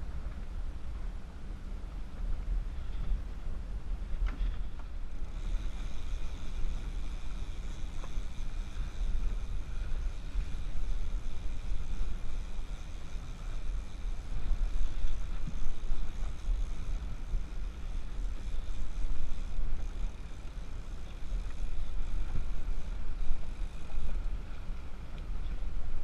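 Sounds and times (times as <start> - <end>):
wind buffeting microphone: 0.0 - 26.0
outboard motors whining: 4.0 - 25.7.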